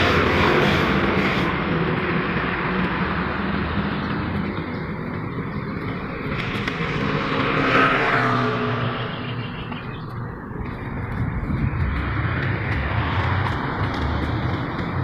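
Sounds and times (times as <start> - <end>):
road traffic rumble: 0.0 - 15.0
vehicle passing loudly: 0.0 - 15.0.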